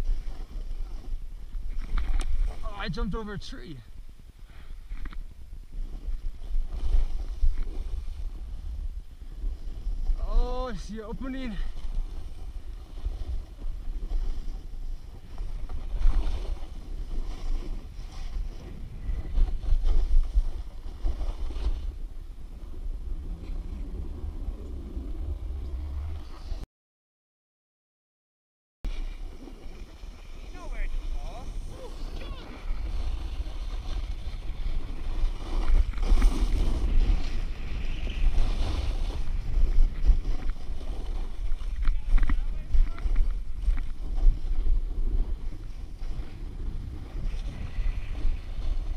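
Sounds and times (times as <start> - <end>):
snowboard scraping over snow: 0.0 - 26.6, 28.9 - 48.9
wind buffeting microphone: 0.0 - 26.6, 29.1 - 48.9.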